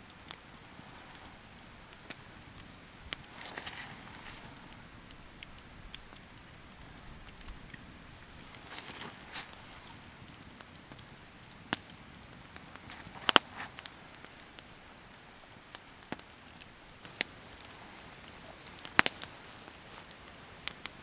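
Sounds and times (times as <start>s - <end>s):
campfire pops: 0.0s - 21.0s
soft steady hiss: 0.0s - 21.0s.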